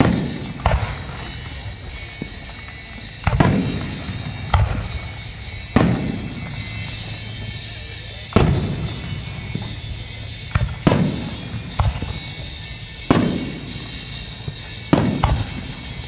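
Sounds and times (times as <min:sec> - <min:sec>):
fireworks bangs echoing: 0:00.0 - 0:16.0.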